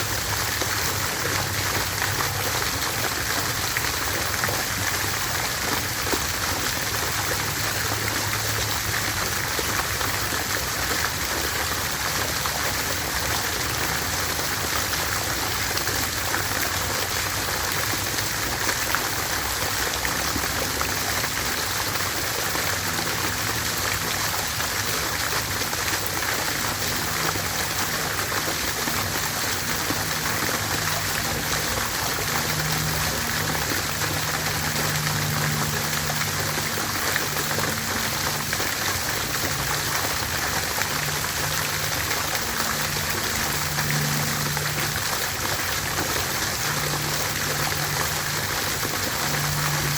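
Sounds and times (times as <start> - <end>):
water fountain splashing: 0.0 - 49.9.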